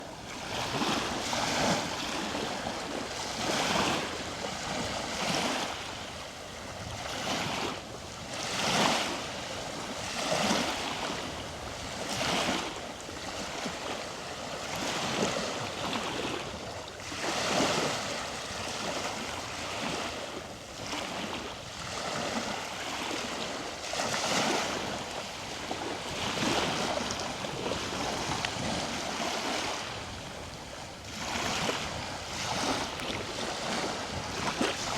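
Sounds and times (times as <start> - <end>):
small waves breaking on beach: 0.0 - 34.9
wind on microphone: 0.0 - 34.9.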